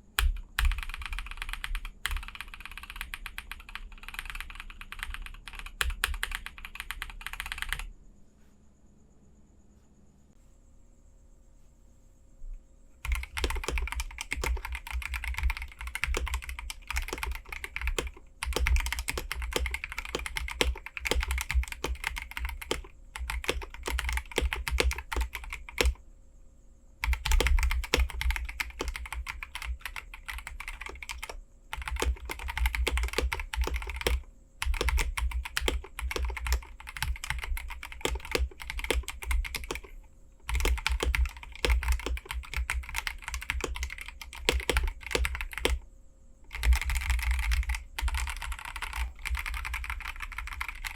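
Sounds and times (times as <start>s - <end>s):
fast typing on mechanical keyboard: 0.0s - 7.9s, 13.0s - 26.0s, 27.0s - 45.8s, 46.5s - 50.9s.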